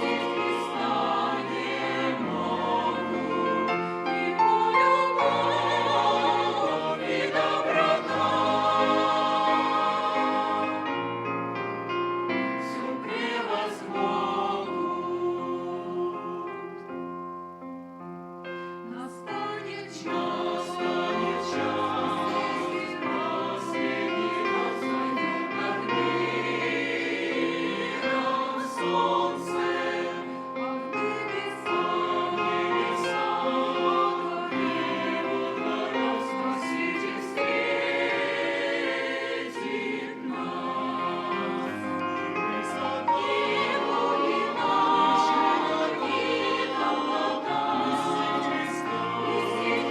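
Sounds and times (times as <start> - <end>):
choir singing a hymn: 0.0 - 17.7, 18.5 - 49.9.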